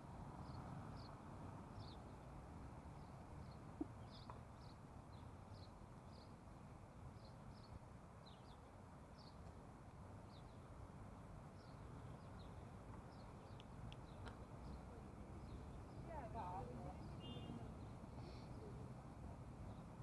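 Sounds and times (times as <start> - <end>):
street traffic hum: 0.0 - 20.0
songbird chirping: 0.3 - 20.0.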